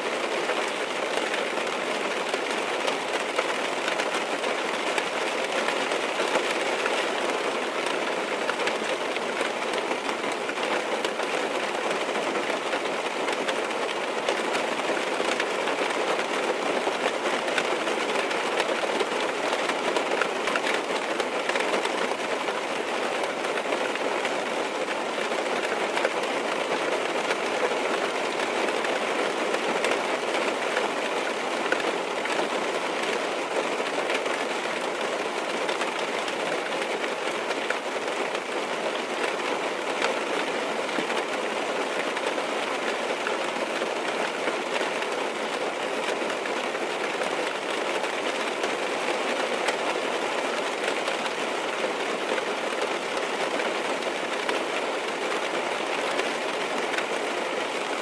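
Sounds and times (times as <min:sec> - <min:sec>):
rain hissing on a car: 0:00.0 - 0:58.0
raindrops pattering: 0:00.0 - 0:58.0.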